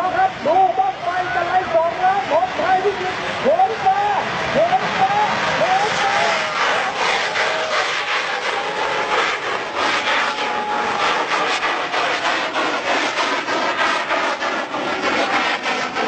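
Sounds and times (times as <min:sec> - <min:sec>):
rocket rushing and crackling: 0:02.6 - 0:16.0.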